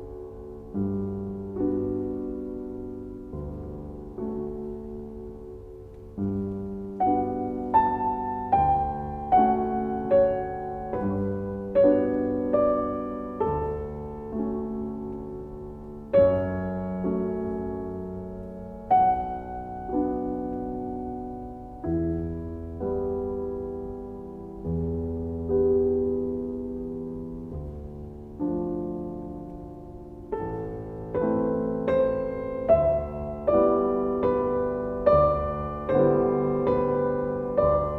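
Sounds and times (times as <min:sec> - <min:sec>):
slow piano music: 0:00.0 - 0:37.9.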